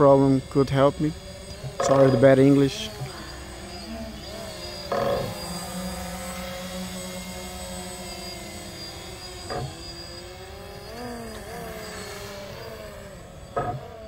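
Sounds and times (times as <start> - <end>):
drone motor and propeller whine: 0.0 - 14.0.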